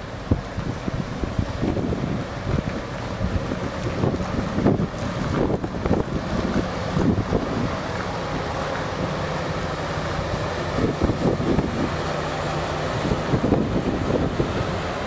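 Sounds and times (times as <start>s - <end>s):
ship engine low hum: 0.0s - 15.0s
water rushing along hull: 0.0s - 15.0s
wind buffeting microphone: 0.0s - 15.0s.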